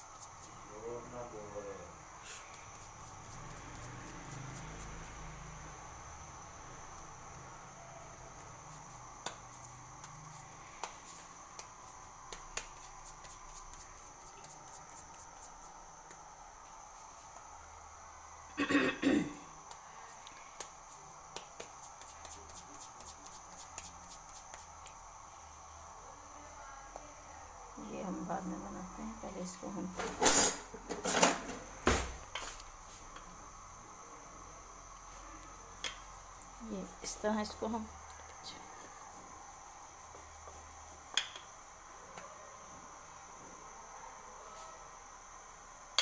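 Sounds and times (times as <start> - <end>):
steady high hiss: 0.0 - 46.0.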